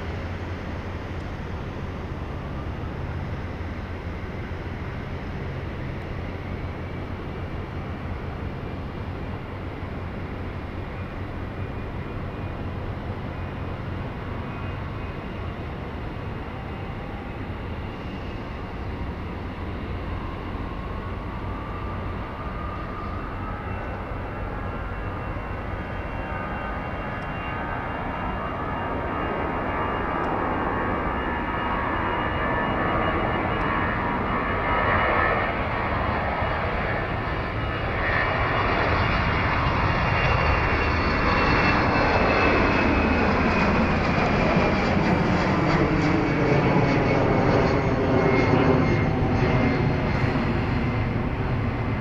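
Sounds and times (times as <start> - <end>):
jet engine whine rising: 0.0 - 52.0
jet engines rumbling: 0.0 - 52.0.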